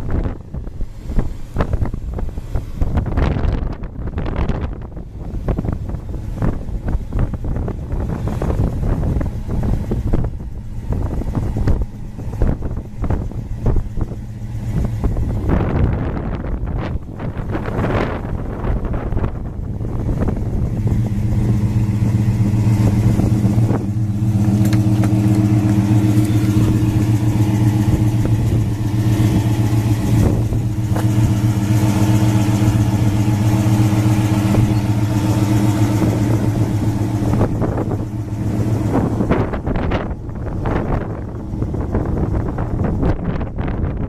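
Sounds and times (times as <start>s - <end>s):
engine running steadily: 0.0s - 44.0s
wind on microphone: 0.0s - 44.0s.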